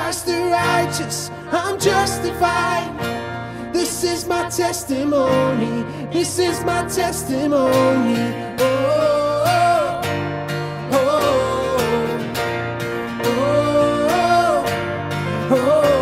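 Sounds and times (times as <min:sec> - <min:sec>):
keyboard playing: 0:00.0 - 0:16.0
strummed acoustic guitar: 0:00.0 - 0:16.0.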